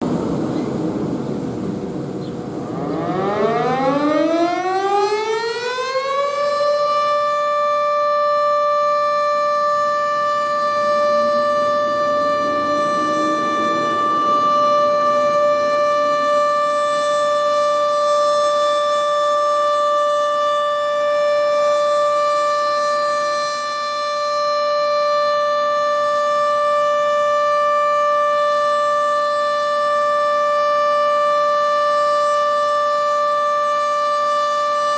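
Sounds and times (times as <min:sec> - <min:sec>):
warning siren winding up: 0:02.6 - 0:34.9.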